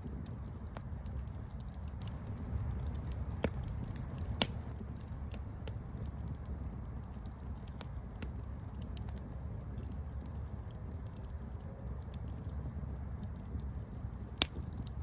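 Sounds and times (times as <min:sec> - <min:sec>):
campfire burning and crackling: 0:00.0 - 0:15.0.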